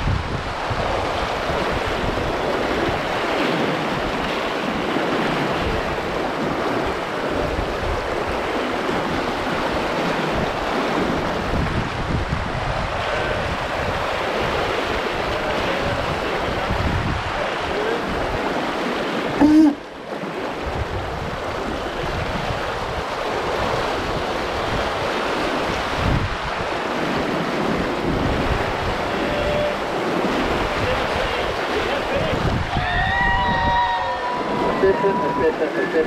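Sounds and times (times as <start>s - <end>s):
water rushing along hull: 0.0s - 36.0s
wind buffeting microphone: 0.0s - 36.0s.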